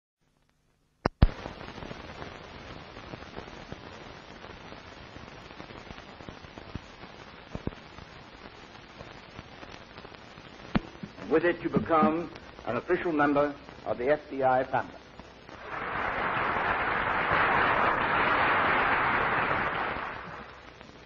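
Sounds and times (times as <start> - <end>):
film soundtrack hiss and crackle: 0.2 - 21.0
loud pops: 1.0 - 14.1, 14.8 - 21.0.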